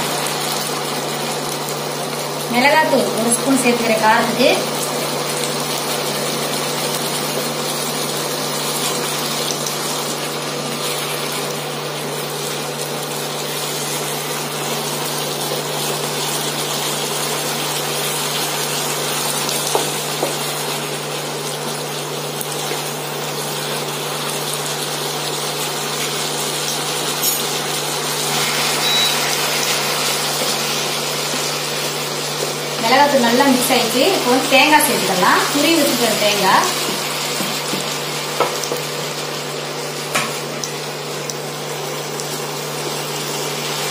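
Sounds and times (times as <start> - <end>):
induction cooktop hum and hiss: 0.0 - 43.9.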